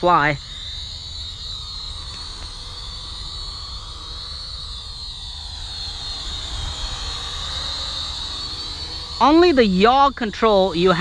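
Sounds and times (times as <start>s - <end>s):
toy drone motors whining: 0.0s - 11.0s.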